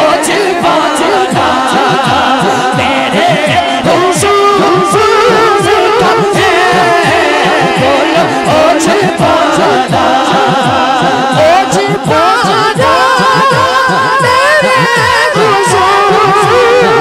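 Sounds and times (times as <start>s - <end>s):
low drum beat: 0.0s - 17.0s
men singing ornamented melody: 0.0s - 17.0s.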